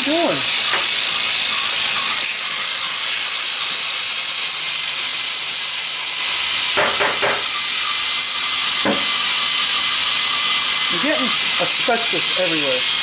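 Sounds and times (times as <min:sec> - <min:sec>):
aerosol spray can hissing: 0:00.0 - 0:13.0.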